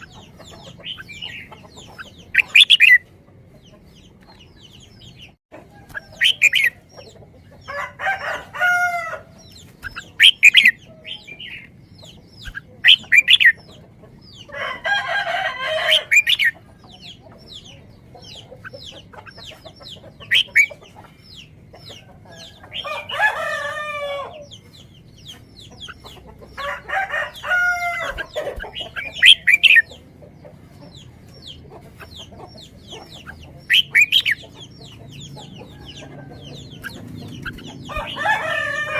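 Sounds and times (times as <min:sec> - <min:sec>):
harsh bird calls: 0:00.0 - 0:38.9.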